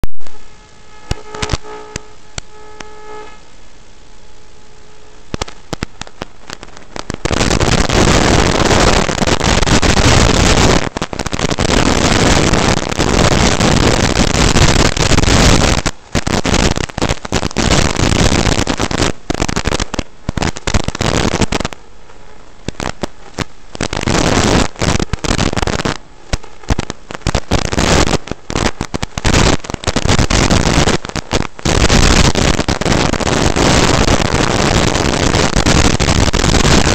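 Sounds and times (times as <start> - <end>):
quiet hum with faint tones: 0.1 - 32.0.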